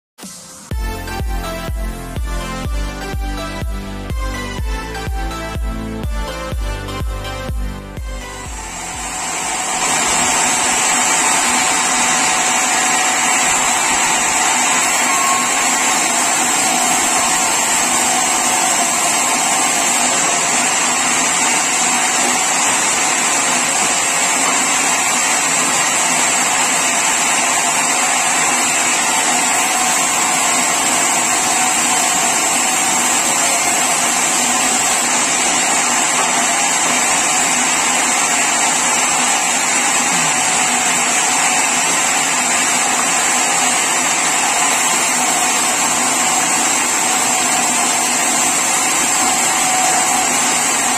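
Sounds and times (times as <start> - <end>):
sawmill saw whining: 0.6 - 50.9.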